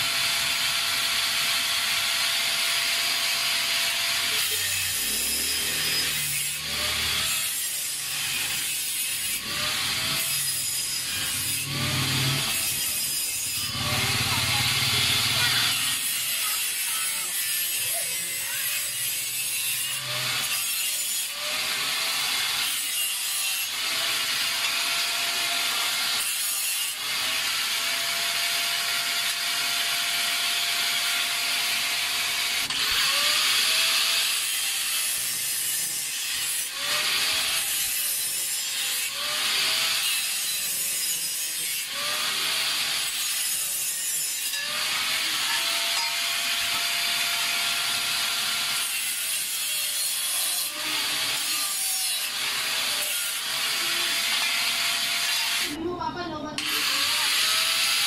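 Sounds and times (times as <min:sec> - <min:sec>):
wood being sawn: 0:00.0 - 0:55.8, 0:56.6 - 0:58.0.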